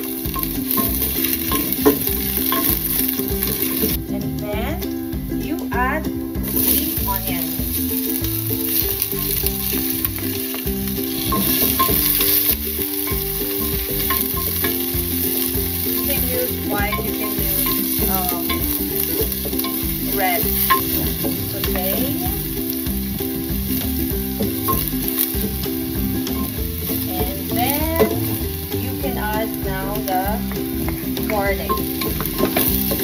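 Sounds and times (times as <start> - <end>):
wooden spoon stirring in pot: 0.0 - 4.6, 6.4 - 33.0
vegetables sizzling in hot oil: 0.0 - 5.1, 6.4 - 33.0.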